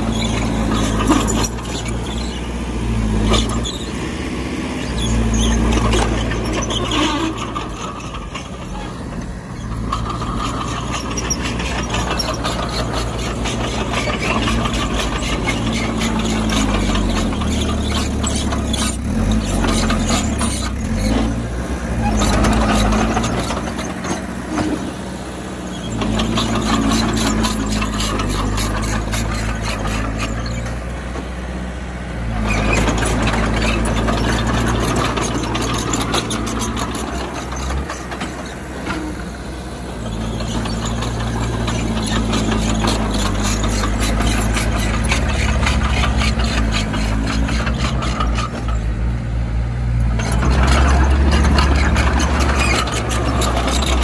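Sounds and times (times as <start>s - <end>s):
steel tracks squealing and clanking: 0.0s - 31.3s, 32.2s - 49.0s, 50.0s - 54.0s
bulldozer diesel engine: 0.0s - 54.0s.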